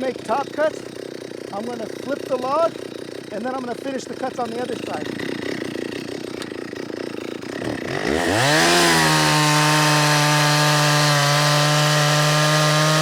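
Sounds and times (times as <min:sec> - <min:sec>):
chainsaw idling: 0:00.0 - 0:13.0
chainsaw revving and cutting log: 0:00.0 - 0:13.0.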